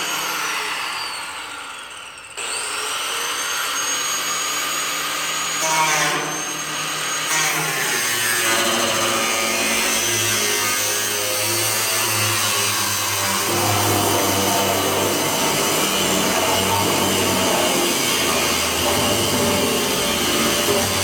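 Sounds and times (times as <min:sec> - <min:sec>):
angle grinder cutting steel: 0:00.0 - 0:21.0.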